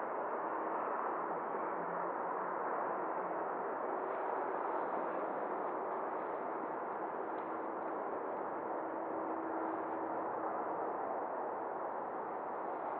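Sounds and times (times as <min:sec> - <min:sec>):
faint steady whine: 0:00.0 - 0:12.9.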